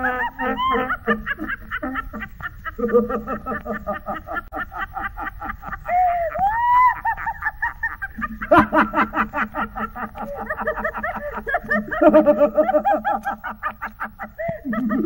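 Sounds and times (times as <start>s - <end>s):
cackling laughter: 0.0s - 15.0s.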